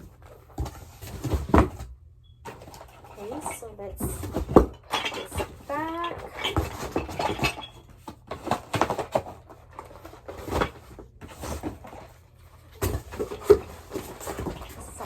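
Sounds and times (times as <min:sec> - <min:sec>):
books and plastic pieces clattering: 0:00.0 - 0:15.0.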